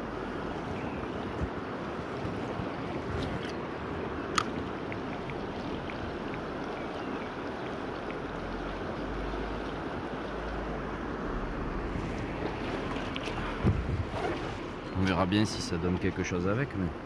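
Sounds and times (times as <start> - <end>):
river running over rocks: 0.0 - 17.0.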